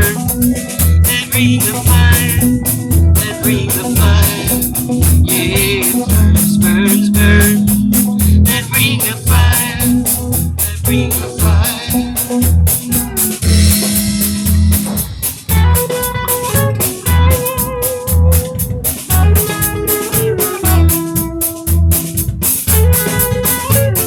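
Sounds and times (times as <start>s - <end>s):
bass: 0.0s - 24.0s
drum kit steady beat: 0.0s - 24.0s
guitar: 0.0s - 24.0s.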